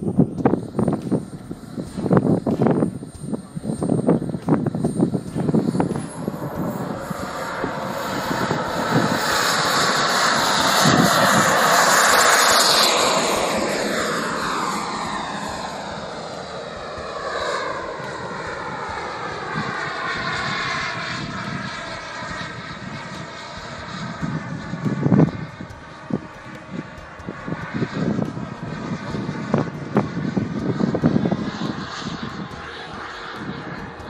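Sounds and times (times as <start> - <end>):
model jet turbine engine: 0.0 - 34.0.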